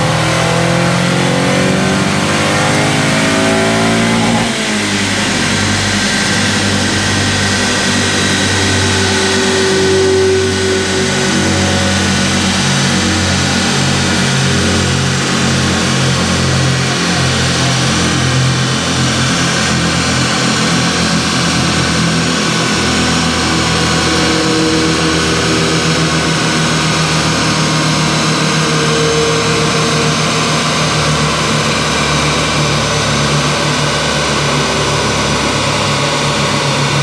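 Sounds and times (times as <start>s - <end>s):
car engine running steadily: 0.0s - 37.0s
loud steady rushing noise: 0.0s - 37.0s.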